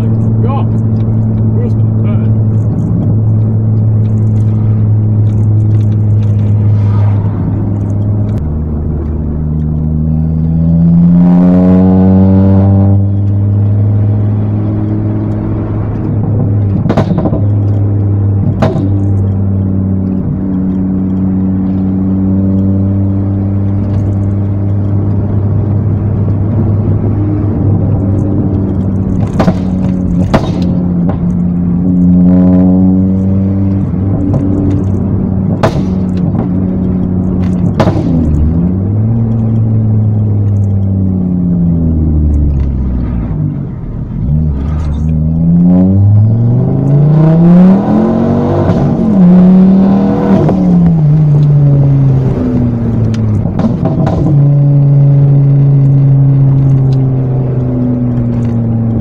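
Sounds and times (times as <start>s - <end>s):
exhaust cracks: 0.0s - 10.9s, 11.8s - 59.0s
car engine accelerating: 0.0s - 59.0s.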